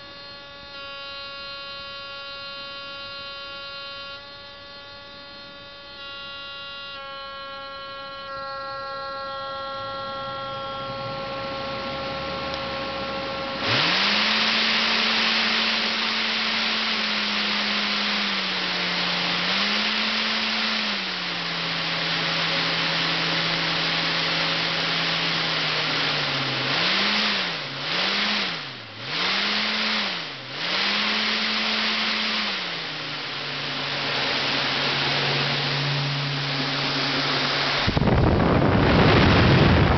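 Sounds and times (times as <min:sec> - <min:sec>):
fan air rush with motor hum: 0:00.0 - 0:39.9
motor whine: 0:00.0 - 0:39.9.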